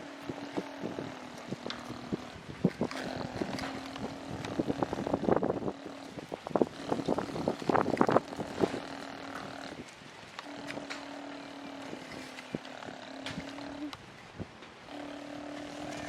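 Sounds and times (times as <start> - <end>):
motor humming: 0.0 - 14.0, 14.9 - 16.0.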